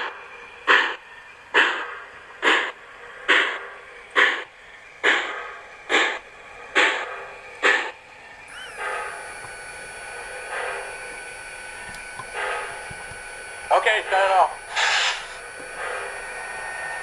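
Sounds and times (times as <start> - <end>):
model steam locomotive chuffs: 0.0 - 17.0.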